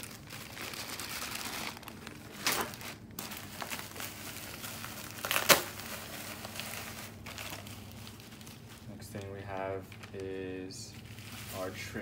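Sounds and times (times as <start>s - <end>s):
bubble wrap crackles: 0.0s - 12.0s
bubble wrap crinkling: 0.0s - 12.0s.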